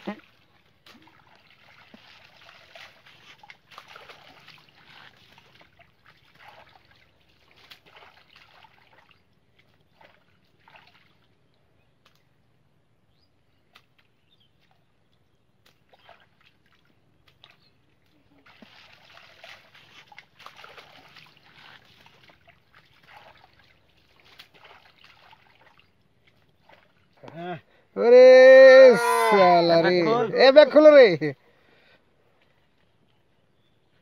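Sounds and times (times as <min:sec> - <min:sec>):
water and mud splashing: 0:00.0 - 0:34.0.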